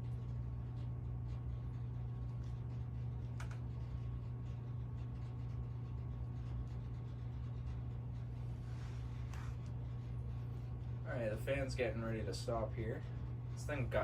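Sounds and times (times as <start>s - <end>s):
ceiling fan coasting down: 0.0s - 14.0s.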